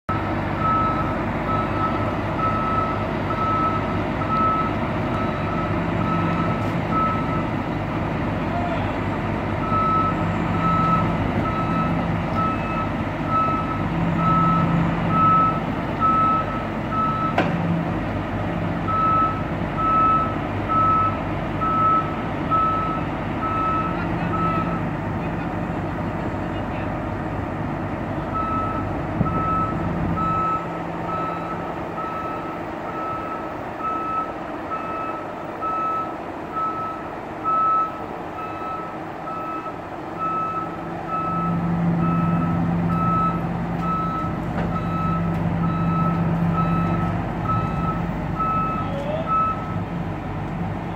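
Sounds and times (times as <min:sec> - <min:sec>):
reversing alarm beeping: 0:00.1 - 0:07.5, 0:09.6 - 0:17.4, 0:18.9 - 0:24.8, 0:28.3 - 0:49.9
diesel engine rumble: 0:00.1 - 0:50.9.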